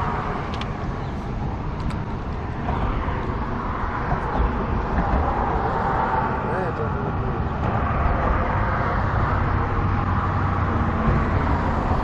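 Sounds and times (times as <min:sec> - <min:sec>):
rumbling outdoor background noise: 0:00.0 - 0:12.0.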